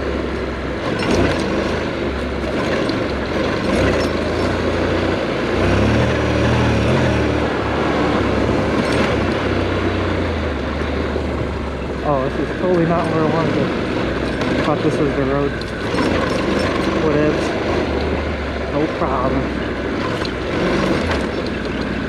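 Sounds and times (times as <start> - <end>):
motorcycle engine running: 0.0 - 22.0
tyres on dirt: 0.0 - 22.0.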